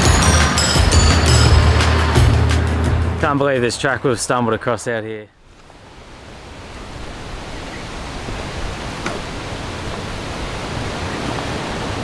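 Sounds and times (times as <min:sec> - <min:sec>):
steady wind hiss: 0:00.6 - 0:12.0.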